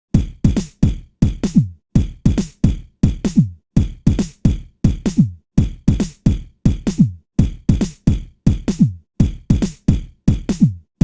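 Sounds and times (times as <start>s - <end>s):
electronic drum beat: 0.1s - 11.0s.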